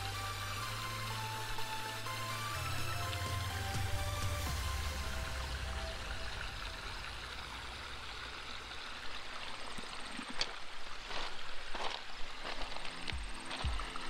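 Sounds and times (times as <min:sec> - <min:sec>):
waterfall rushing and trickling: 0:00.0 - 0:14.0.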